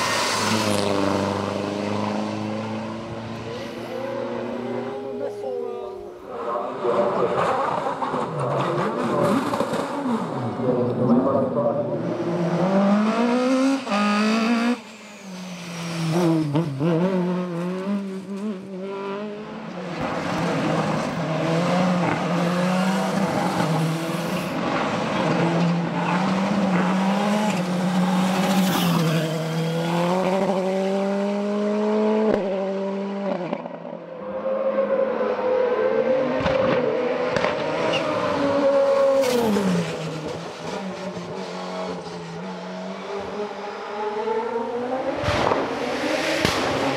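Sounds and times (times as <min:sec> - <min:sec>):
racing car engine at full throttle: 0:00.0 - 0:46.9.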